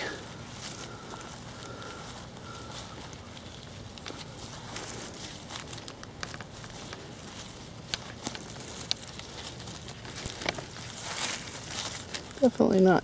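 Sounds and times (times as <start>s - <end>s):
crackling and rustling: 0.0s - 13.0s.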